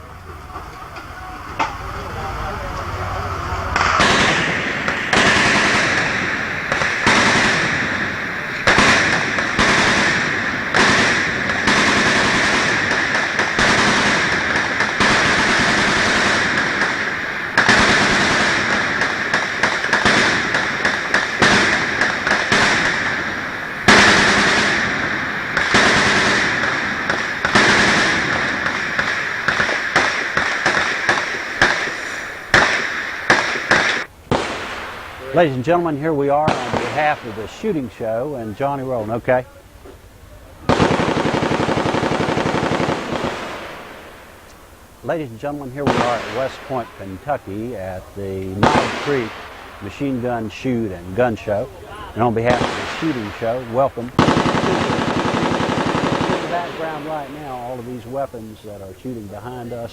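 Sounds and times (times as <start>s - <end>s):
heavy gunshot reports: 1.2s - 59.9s
machine gun fire crackle: 3.6s - 59.9s.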